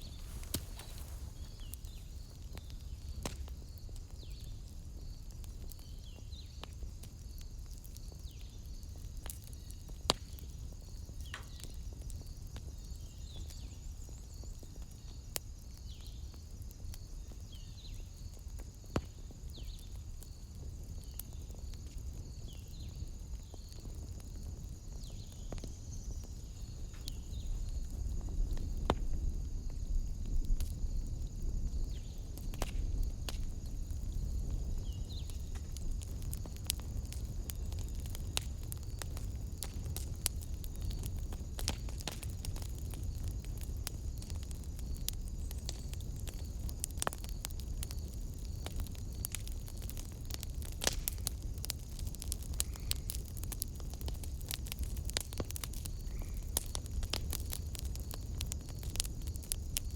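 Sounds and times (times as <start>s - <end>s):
fire crackles and pops: 0.0s - 59.9s
wood fire rumbling: 0.0s - 59.9s.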